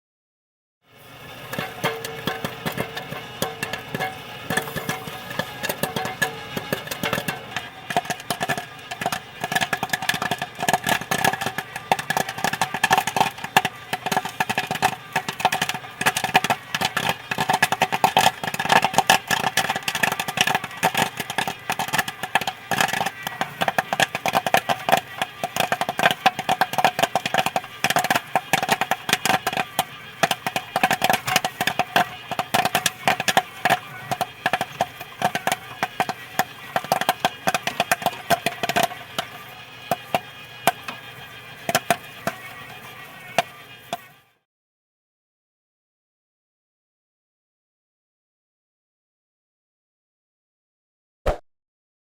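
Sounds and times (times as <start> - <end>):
popcorn popping: 0.9 - 44.4
steady hum: 1.0 - 43.7.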